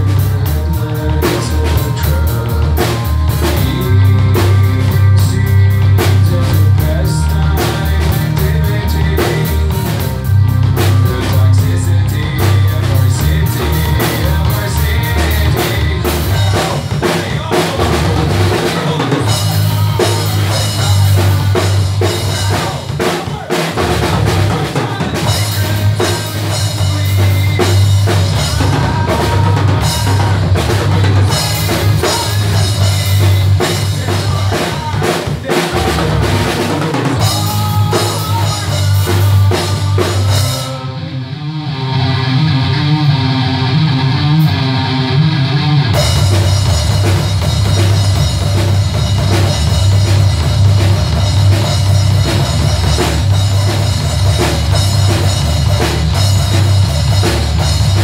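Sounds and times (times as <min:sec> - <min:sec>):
drum kit rock groove: 0:00.0 - 0:58.0
rock backing track: 0:00.0 - 0:58.0.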